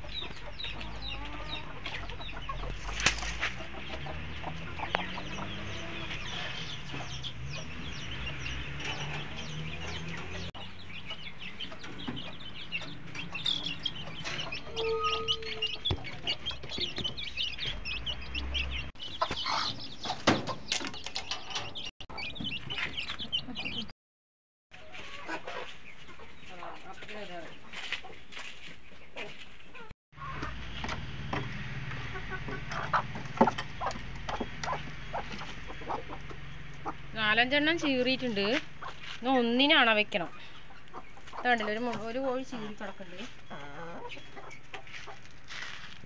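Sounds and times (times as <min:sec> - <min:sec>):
chicks cheeping: 0:00.0 - 0:23.9, 0:24.8 - 0:46.0
hens clucking: 0:00.0 - 0:23.9, 0:24.8 - 0:45.8.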